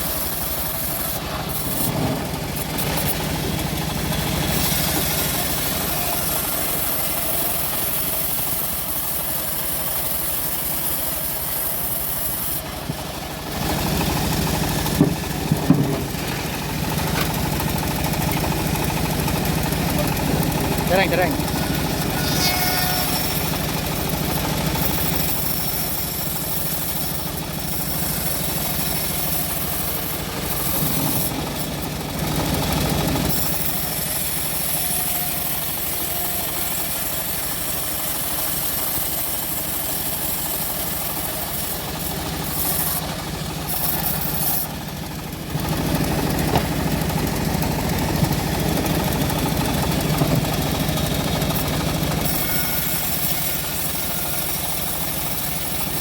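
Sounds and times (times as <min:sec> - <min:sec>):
bandsaw mill sawing log: 0:00.0 - 0:56.0.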